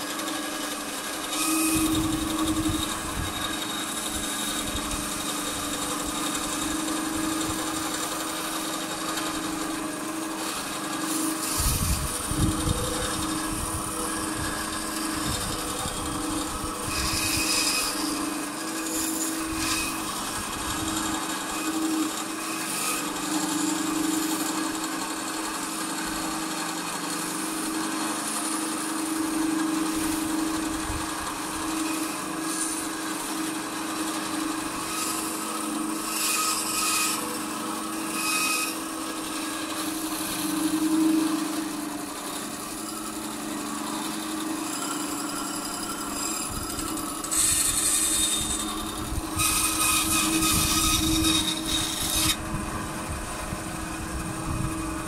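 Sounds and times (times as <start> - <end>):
power tool cutting wood: 0.0 - 55.0.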